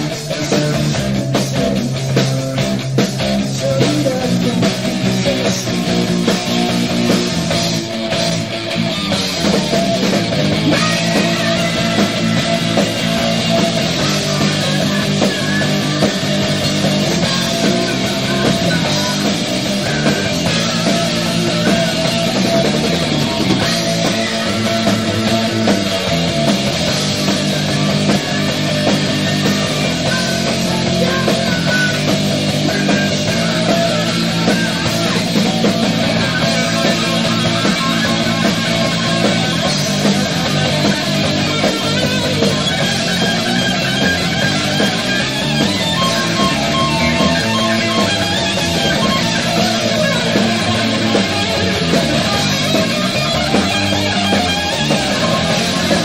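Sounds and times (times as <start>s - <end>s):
distorted electric guitars: 0.0s - 56.0s
heavy metal band playing live: 0.0s - 56.0s.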